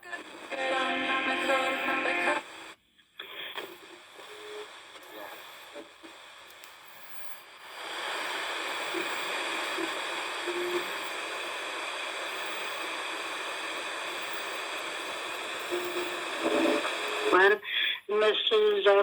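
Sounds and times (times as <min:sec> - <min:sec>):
faint radio tones: 0:00.0 - 0:19.0
radio static hiss: 0:00.0 - 0:19.0.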